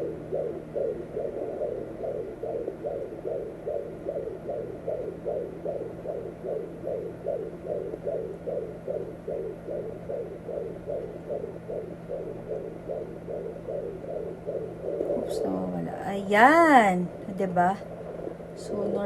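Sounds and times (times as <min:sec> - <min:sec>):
fetal heartbeat whooshing pulse: 0:00.0 - 0:19.0
steady low hum: 0:00.0 - 0:19.0.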